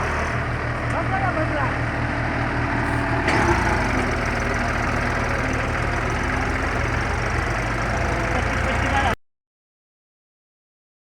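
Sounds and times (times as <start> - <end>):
tractor diesel engine rumbling: 0.0 - 9.2.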